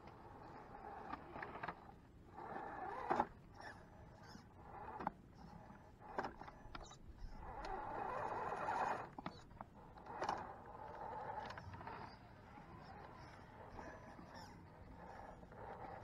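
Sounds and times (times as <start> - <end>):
electric motor whining: 0.3 - 16.0.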